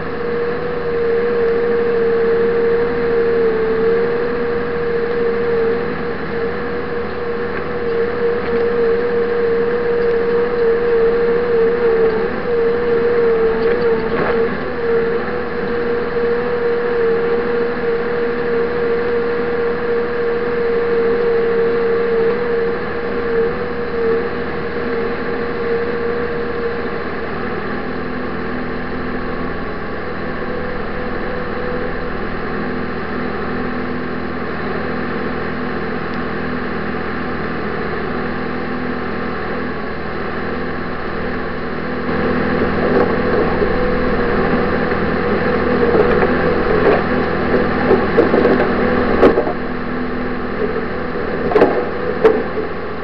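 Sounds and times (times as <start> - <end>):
steady whine: 0.0 - 53.0
vehicle engine running: 0.0 - 53.0.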